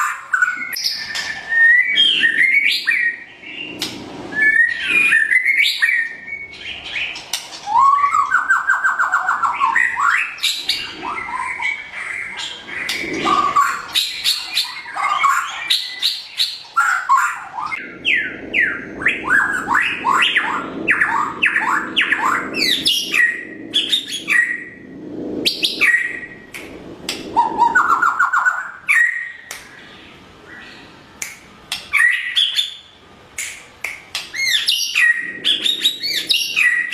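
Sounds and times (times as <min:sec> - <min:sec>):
songbird singing whistles and trills: 0:00.0 - 0:24.8, 0:25.4 - 0:30.9, 0:31.7 - 0:36.9.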